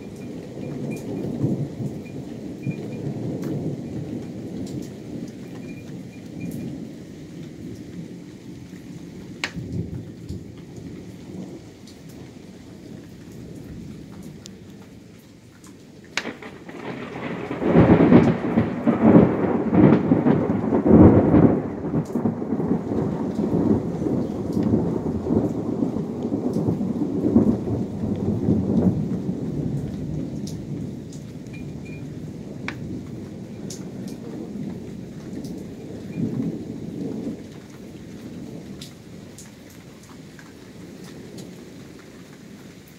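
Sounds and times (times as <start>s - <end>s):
thunder rumbling and cracking: 0.0s - 42.1s.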